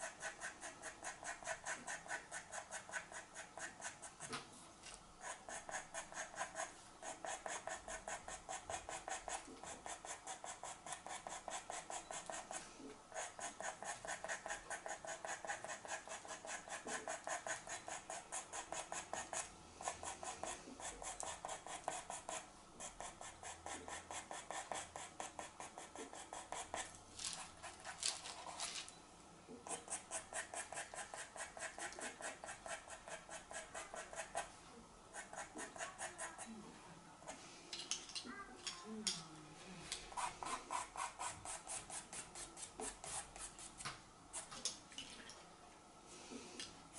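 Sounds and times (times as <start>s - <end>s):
pencil scratching on paper: 0.0s - 4.3s, 5.2s - 28.6s, 29.6s - 36.5s, 40.1s - 43.7s.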